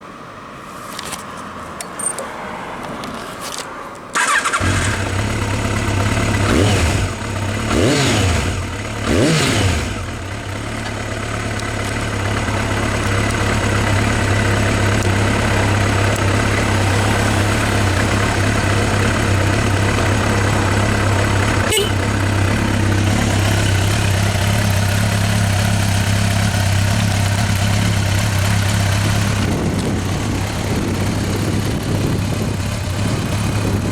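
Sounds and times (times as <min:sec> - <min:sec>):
motorcycle engine revving and idling: 0:04.2 - 0:33.9.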